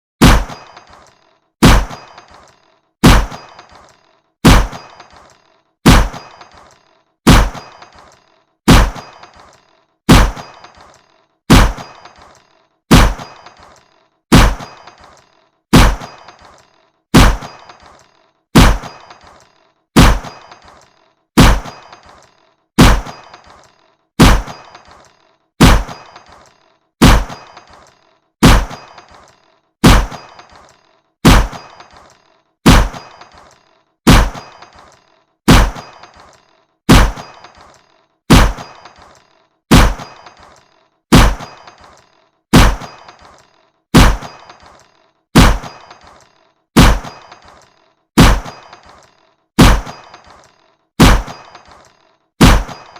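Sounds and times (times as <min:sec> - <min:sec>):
gun shots with metallic ring: 0:00.2 - 0:52.9.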